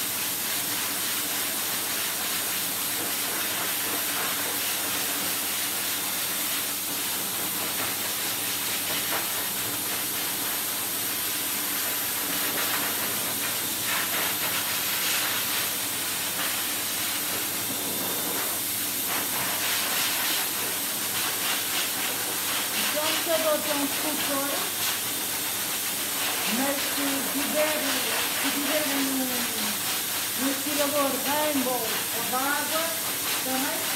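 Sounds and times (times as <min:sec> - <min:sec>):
pet dryer blowing air: 0:00.0 - 0:33.9.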